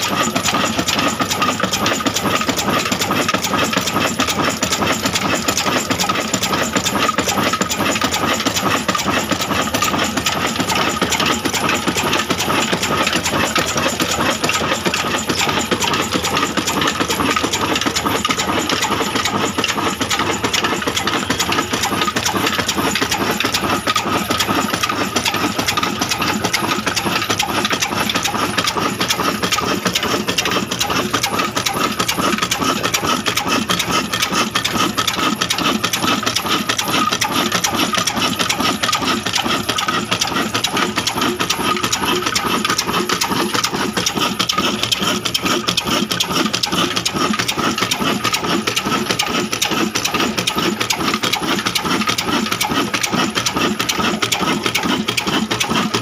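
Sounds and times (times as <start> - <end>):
diesel engine clattering: 0.0 - 56.0.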